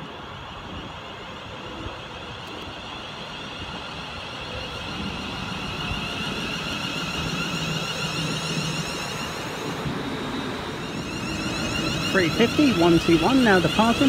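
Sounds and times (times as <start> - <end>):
low hum: 0.0 - 14.0
train electrical whine: 0.0 - 14.0.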